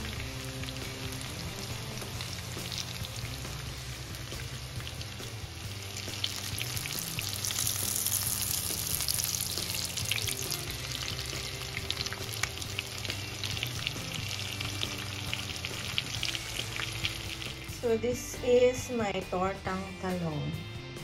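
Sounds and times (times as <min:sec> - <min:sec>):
food sizzling in oil: 0:00.0 - 0:18.5
soft background music: 0:00.0 - 0:21.0.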